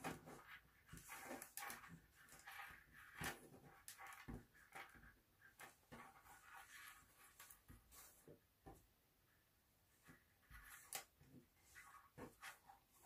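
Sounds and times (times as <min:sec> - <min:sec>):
cord rustling and swishing: 0:00.0 - 0:08.8, 0:10.0 - 0:13.0.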